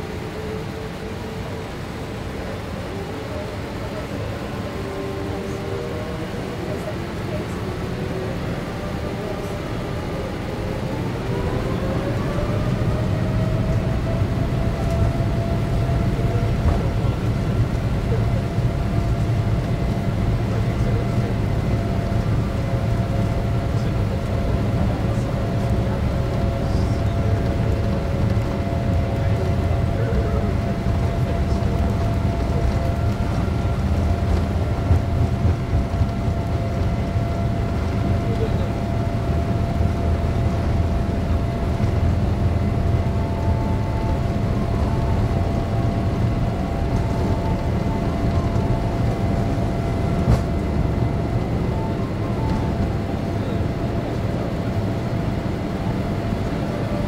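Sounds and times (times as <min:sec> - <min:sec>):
aircraft cabin rumble: 0:00.0 - 0:57.0
jet engines whining: 0:00.0 - 0:57.0.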